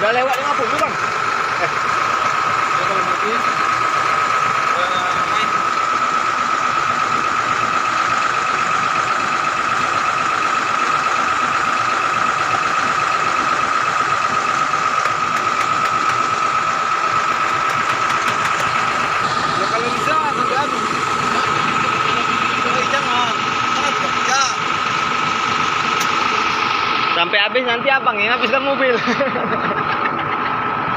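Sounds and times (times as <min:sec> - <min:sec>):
high-pitched whine: 0:00.0 - 0:30.9
vehicle engine idling: 0:00.0 - 0:30.9.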